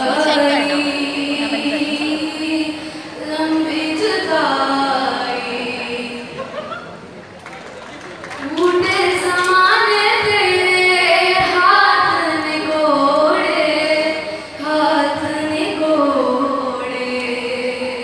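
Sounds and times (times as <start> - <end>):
woman singing into microphone: 0.0 - 6.8, 8.4 - 18.0.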